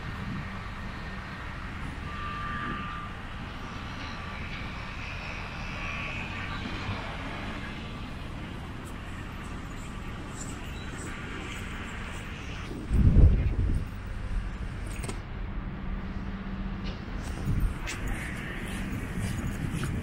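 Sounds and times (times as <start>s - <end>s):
distant city traffic rumble: 0.0s - 20.0s.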